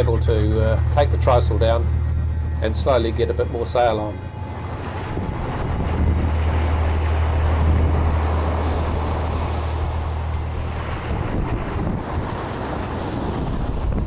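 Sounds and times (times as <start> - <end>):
rushing sea: 0.0 - 14.0
wind buffeting microphone: 0.0 - 14.0.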